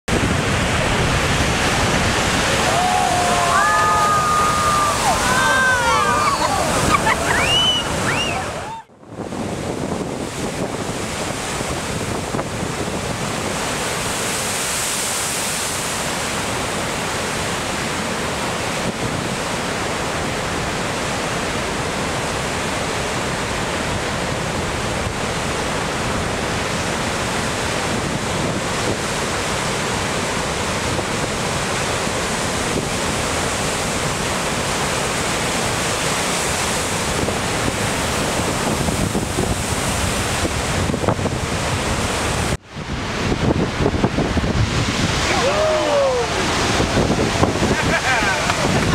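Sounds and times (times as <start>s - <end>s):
surf breaking against rocks: 0.1s - 48.9s
wind buffeting microphone: 0.1s - 48.9s.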